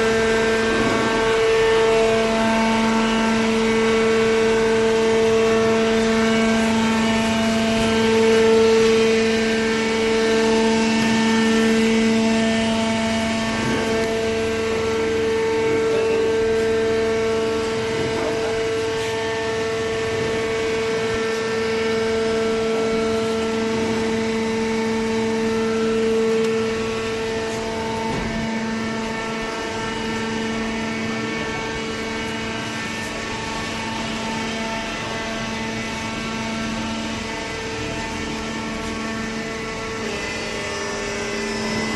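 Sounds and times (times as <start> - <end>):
hydraulic baler humming: 0.0 - 41.9.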